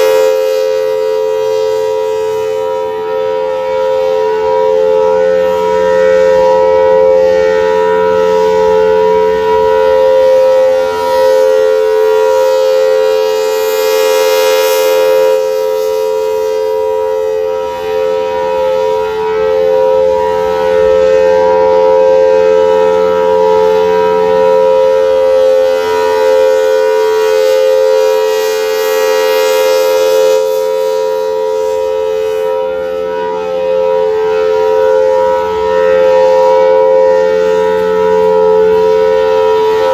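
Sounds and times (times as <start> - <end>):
tornado siren two-note chord: 0.0 - 39.9.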